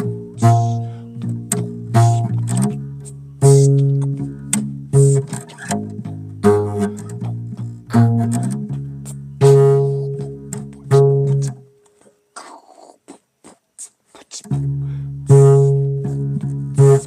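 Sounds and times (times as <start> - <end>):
bass guitar plucked notes: 0.0 - 11.8, 14.5 - 17.0.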